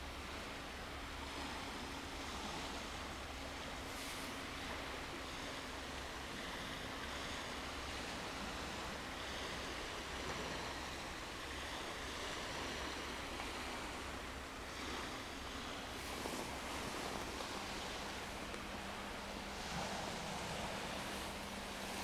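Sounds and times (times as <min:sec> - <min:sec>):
small sea waves washing: 0:00.0 - 0:22.0.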